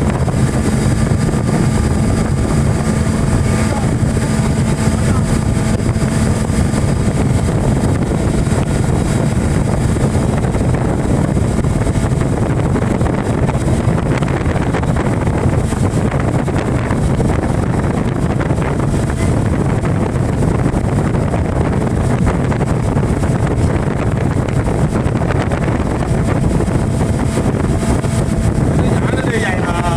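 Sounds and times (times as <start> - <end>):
motorboat running: 0.0 - 29.9
wind noise on microphone: 0.0 - 29.9.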